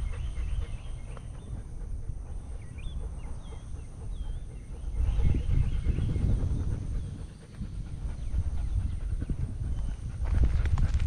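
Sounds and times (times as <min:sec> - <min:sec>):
bird chirping: 0:00.0 - 0:10.7
insect drone: 0:00.0 - 0:11.0
low rumble: 0:00.0 - 0:11.0.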